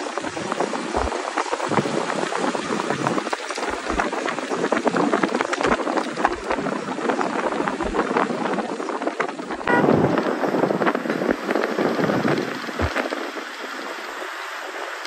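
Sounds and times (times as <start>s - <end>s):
small clicks and crackles: 0.0s - 15.0s
wind and road noise: 0.0s - 15.0s.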